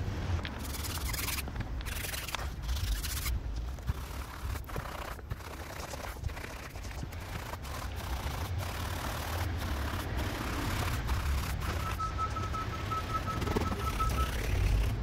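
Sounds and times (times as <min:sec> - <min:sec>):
low steady rumble: 0:00.0 - 0:15.0
wet scrubbing of a wheel: 0:00.4 - 0:15.0.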